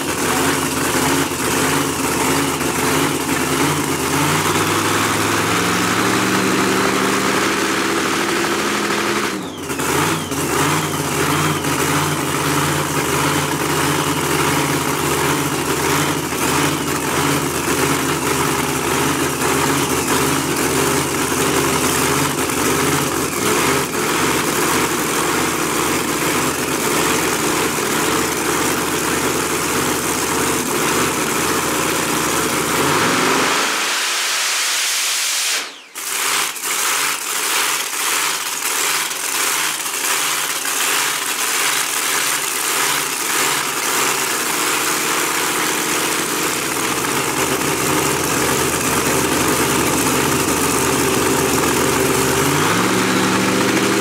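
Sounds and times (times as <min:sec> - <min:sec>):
racing engine idling: 0:00.0 - 0:34.8, 0:35.6 - 0:54.0.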